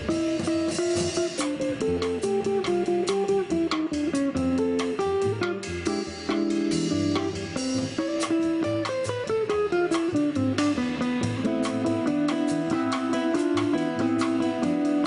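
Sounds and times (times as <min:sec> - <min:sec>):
drum kit with cymbals: 0:00.0 - 0:15.0
electric guitar melody: 0:00.0 - 0:15.0
plucked double bass: 0:00.0 - 0:15.0.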